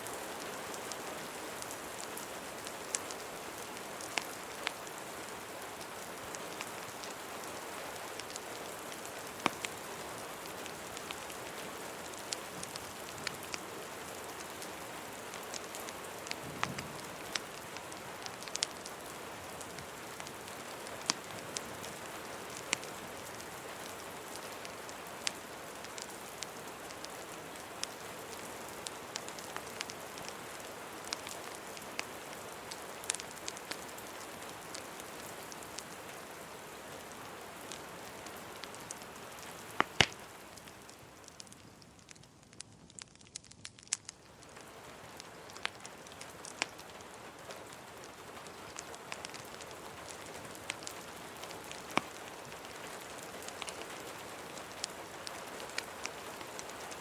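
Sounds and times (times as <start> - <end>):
steady rain hiss: 0.0 - 57.0
wood fire crackling: 0.0 - 57.0.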